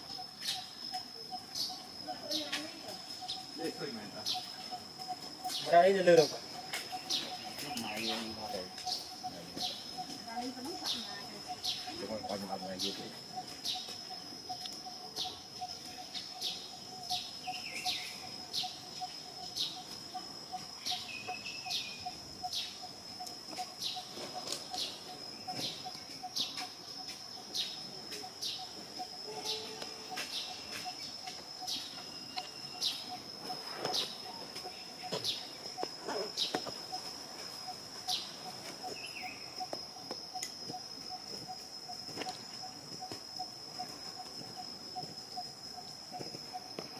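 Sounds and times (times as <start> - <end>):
insects trilling: 0.0 - 46.9.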